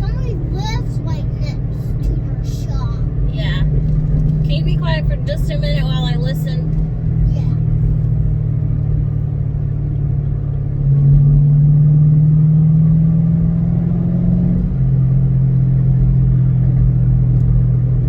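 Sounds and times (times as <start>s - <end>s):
car engine accelerating from inside: 0.0s - 18.0s.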